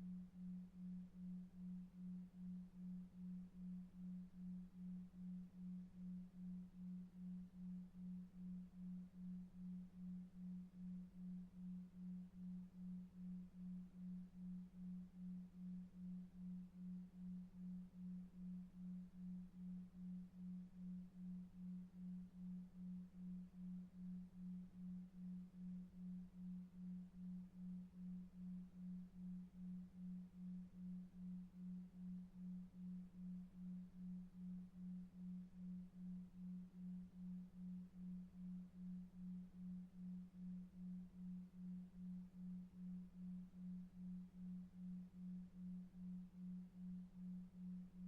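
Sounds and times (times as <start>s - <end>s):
pulsing low sine tone: 0.0s - 48.0s.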